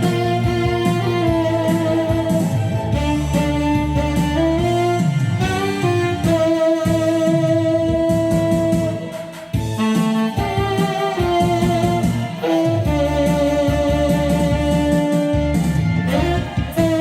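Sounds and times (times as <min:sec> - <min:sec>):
bass: 0:00.0 - 0:17.0
saxophone melody: 0:00.0 - 0:17.0.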